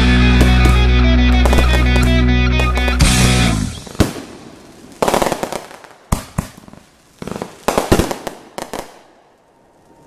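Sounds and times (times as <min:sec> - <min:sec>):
firework crackling: 0:00.0 - 0:10.0.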